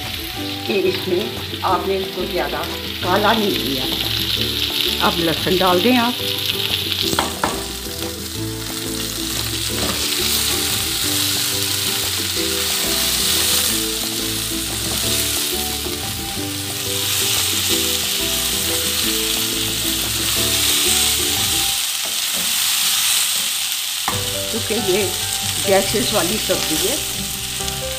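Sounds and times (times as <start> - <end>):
background music: 0.0 - 21.8, 24.1 - 27.9
okra and garlic sizzling in oil: 0.0 - 27.9.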